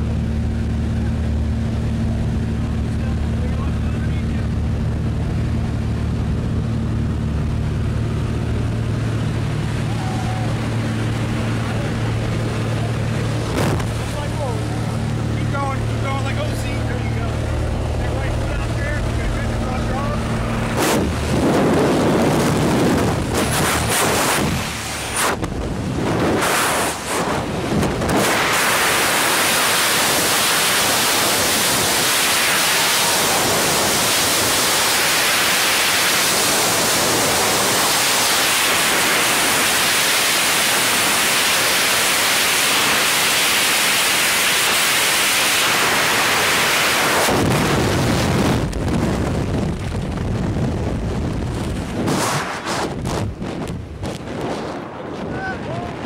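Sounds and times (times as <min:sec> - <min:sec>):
wind roaring over microphone: 0:00.0 - 0:56.0.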